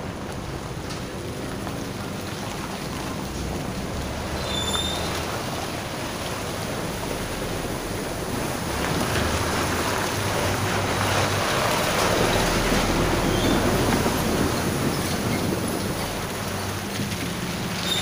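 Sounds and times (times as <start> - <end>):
diesel truck engine running: 0.0 - 18.0
tyres splashing through water: 0.0 - 18.0.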